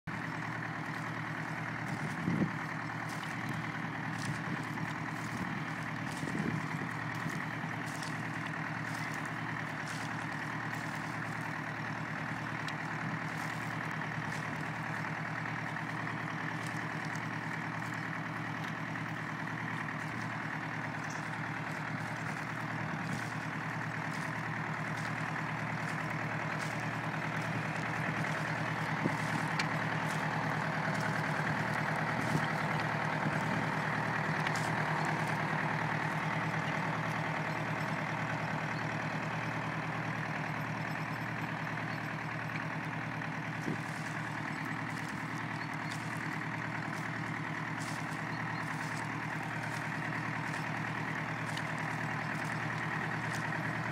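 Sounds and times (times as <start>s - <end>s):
tractor engine under load: 0.0s - 53.9s.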